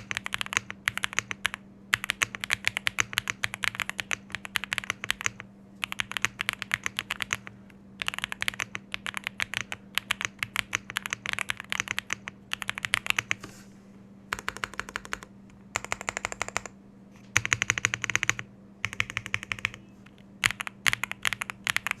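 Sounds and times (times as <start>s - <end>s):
typing on mechanical keyboard: 0.0s - 13.4s, 14.3s - 16.7s, 17.4s - 22.0s
faint steady hum: 0.0s - 22.0s.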